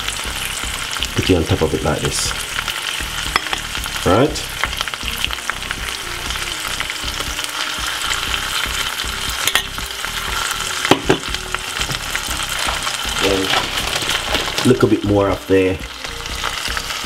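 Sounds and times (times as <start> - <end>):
fish frying in oil: 0.0 - 17.0.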